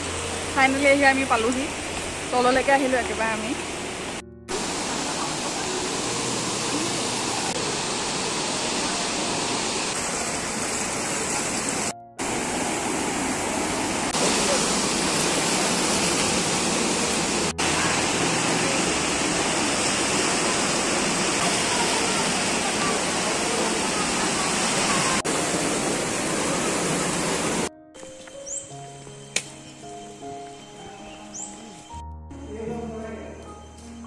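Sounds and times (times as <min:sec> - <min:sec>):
river water rushing: 0:00.0 - 0:27.7.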